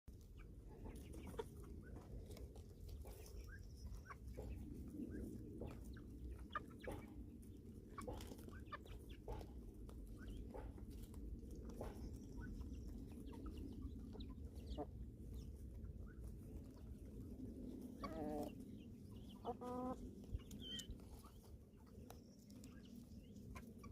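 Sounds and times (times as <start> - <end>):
chickens clucking: 0.1 - 23.9.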